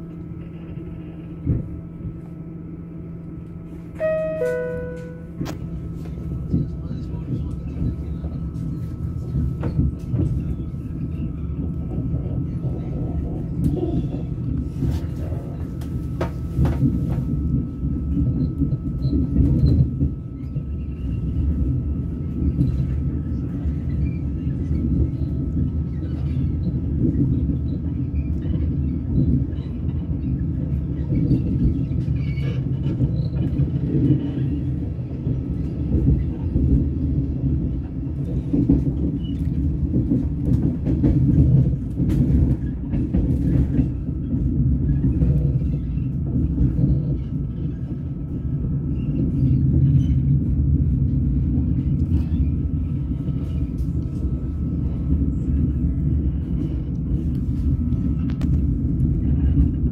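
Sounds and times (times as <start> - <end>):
railway carriage rumble: 0.0 - 59.9.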